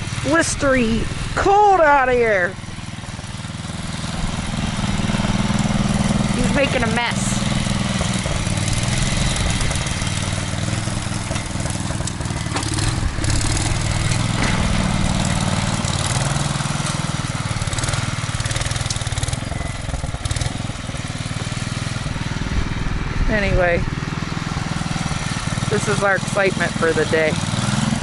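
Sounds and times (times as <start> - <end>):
snowblower engine running: 0.0 - 28.0.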